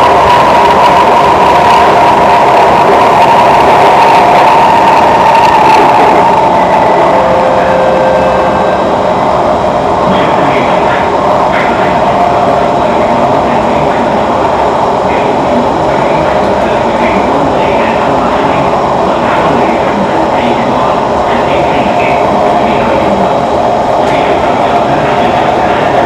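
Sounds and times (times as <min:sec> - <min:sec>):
train rumbling with whine: 0:00.0 - 0:26.0.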